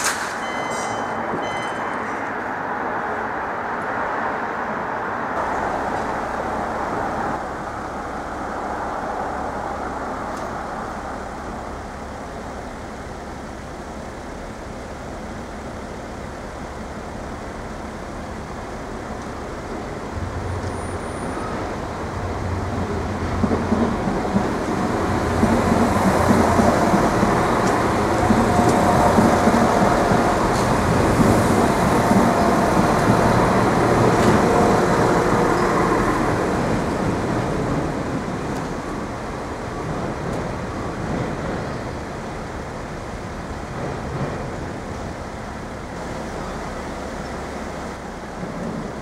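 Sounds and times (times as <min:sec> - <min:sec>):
diesel train engine drone: 0:00.0 - 0:49.0
steady background noise: 0:00.0 - 0:49.0.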